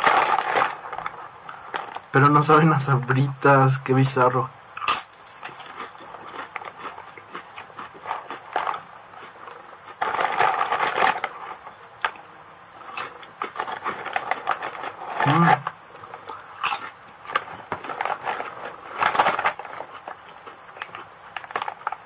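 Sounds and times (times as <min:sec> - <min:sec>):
potato chips crunching: 0:00.0 - 0:02.4, 0:04.8 - 0:22.0
plastic bag crinkling: 0:00.0 - 0:02.8, 0:05.2 - 0:12.2, 0:12.8 - 0:22.0.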